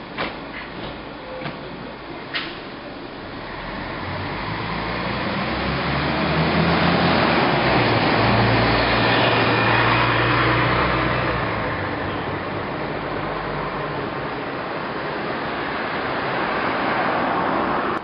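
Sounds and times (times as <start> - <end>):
bus engine hum: 0.0 - 18.0
road noise rushing: 0.0 - 18.0.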